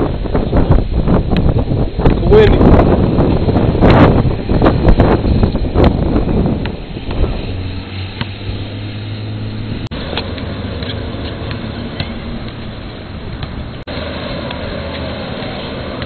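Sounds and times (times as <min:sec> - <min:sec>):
outdoor background noise: 0:00.0 - 0:16.0
vehicle engine humming: 0:00.0 - 0:16.0.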